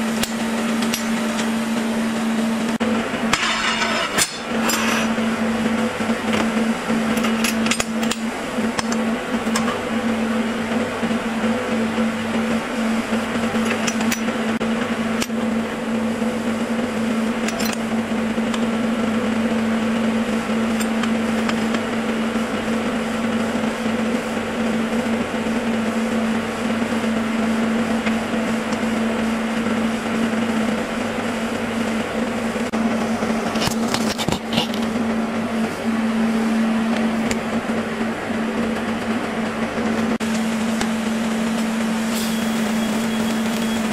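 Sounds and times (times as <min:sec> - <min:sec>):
machine hum and hiss: 0:00.0 - 0:43.9.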